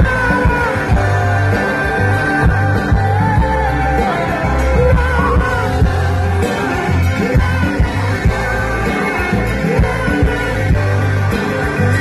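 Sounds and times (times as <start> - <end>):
live rock band playing: 0.0 - 12.0
person singing: 0.0 - 12.0.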